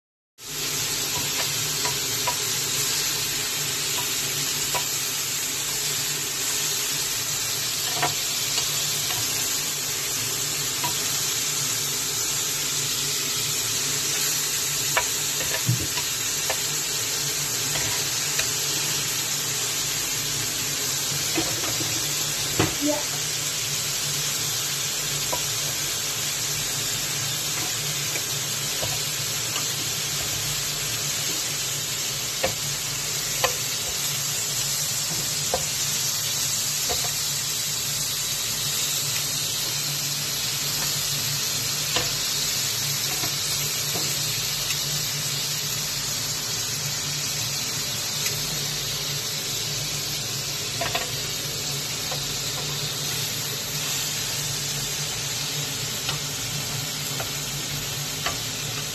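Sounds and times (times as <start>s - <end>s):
meat sizzling on a grill: 0.4s - 58.9s.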